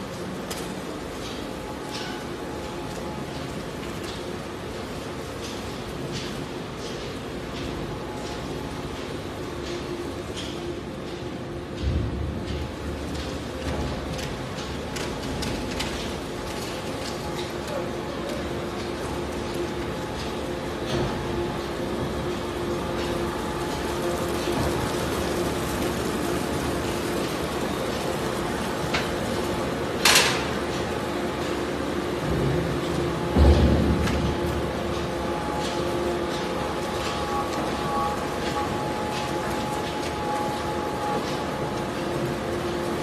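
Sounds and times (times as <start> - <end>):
conveyor machine hum: 0.0 - 43.0.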